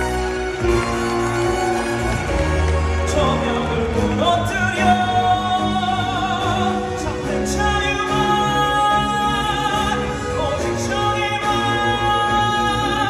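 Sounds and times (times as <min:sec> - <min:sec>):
orchestral accompaniment: 0:00.0 - 0:13.0
person singing with vibrato: 0:01.6 - 0:13.0.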